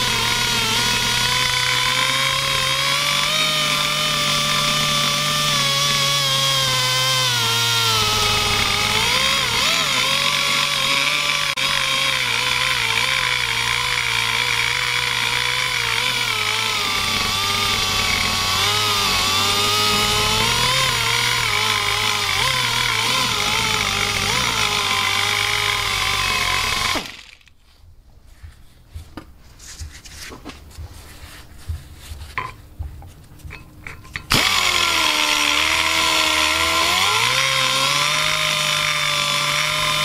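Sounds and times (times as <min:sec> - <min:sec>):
die grinder cutting metal: 0:00.0 - 0:27.5, 0:34.1 - 0:40.0.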